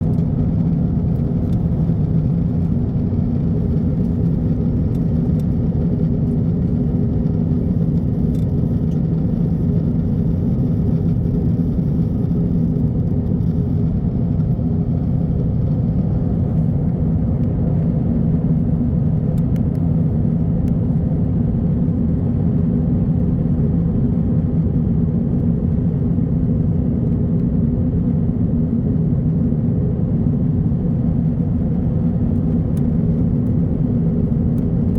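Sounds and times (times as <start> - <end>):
jet engine and airflow drone: 0.0 - 34.9.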